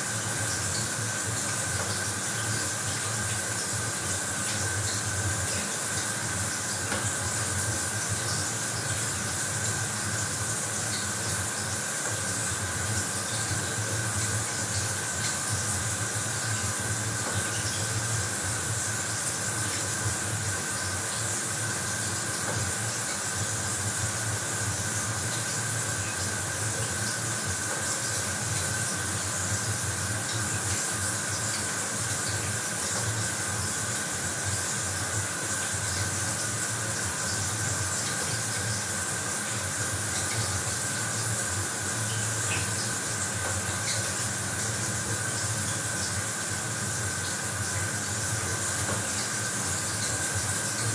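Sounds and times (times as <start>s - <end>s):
shower water spraying: 0.0s - 50.9s.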